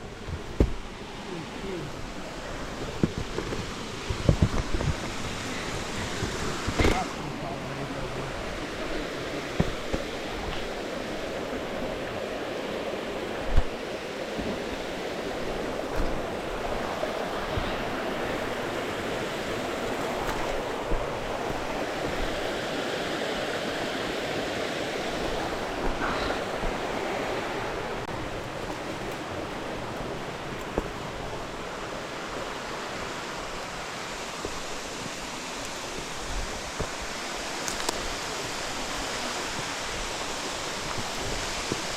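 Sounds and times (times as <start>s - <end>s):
falling water rushing: 0.0s - 41.9s.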